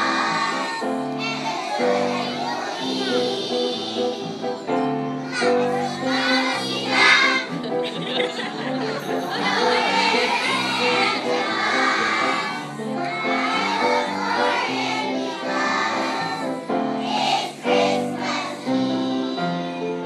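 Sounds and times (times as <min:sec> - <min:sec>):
children singing: 0:00.0 - 0:20.0
instrumental accompaniment: 0:00.0 - 0:20.0.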